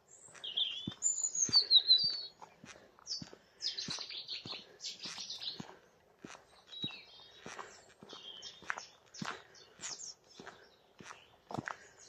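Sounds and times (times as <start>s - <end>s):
footsteps on a path: 0.0s - 12.0s
songbird singing: 0.0s - 12.0s.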